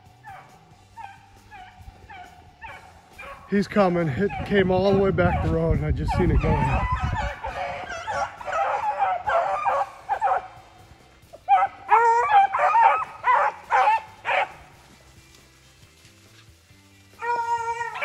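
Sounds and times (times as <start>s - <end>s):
beagles baying: 0.0s - 15.5s, 17.1s - 18.0s.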